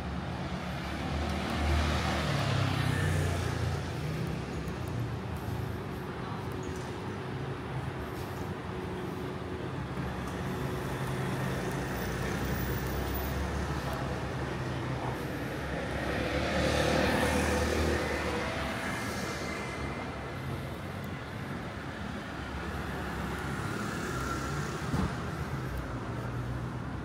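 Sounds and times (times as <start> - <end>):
low hum of traffic: 0.0 - 27.0.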